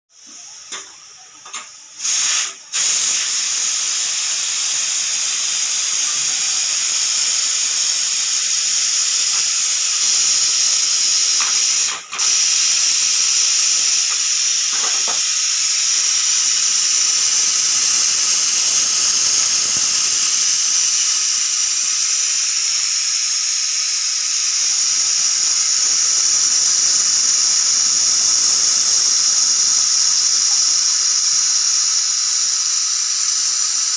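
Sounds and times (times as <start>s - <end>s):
pressure cooker whistle hissing: 0.2s - 33.9s
steam puffs: 0.2s - 33.9s.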